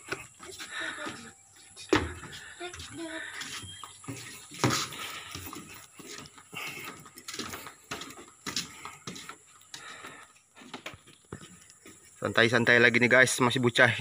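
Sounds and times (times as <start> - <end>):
footsteps on wooden boards: 0.0 - 12.4.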